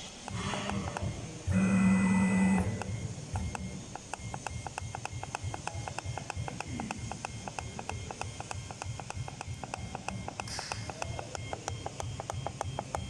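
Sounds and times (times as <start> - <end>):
quick clicking beat: 0.0 - 1.2, 2.6 - 13.0
loud steady hum: 0.0 - 13.0.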